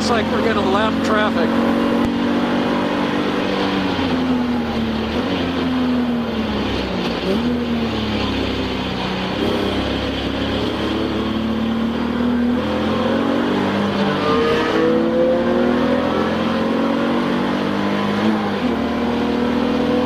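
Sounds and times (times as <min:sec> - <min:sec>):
race car engine: 0:00.0 - 0:20.0.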